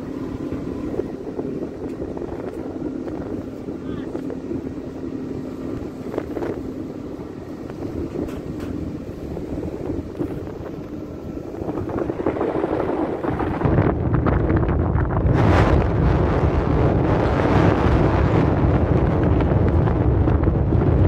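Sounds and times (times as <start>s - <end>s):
ship engine hum: 0.0s - 21.0s
wind buffeting microphone: 0.0s - 21.0s.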